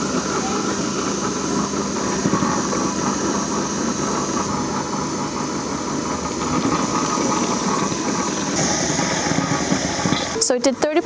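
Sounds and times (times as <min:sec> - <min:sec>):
robot lawn mower running: 0:00.0 - 0:11.0.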